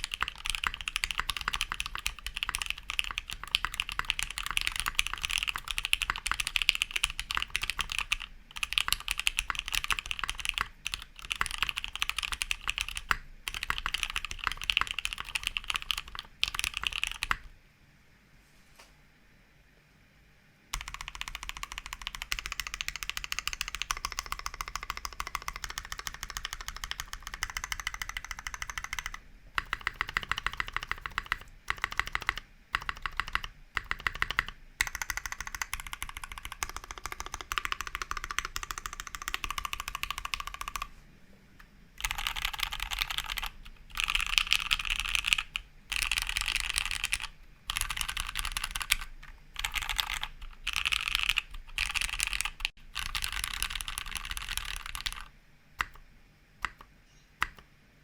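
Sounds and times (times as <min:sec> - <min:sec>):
typing on mechanical keyboard: 0:00.0 - 0:17.5, 0:20.7 - 0:40.9, 0:42.0 - 0:56.0, 0:56.6 - 0:57.6.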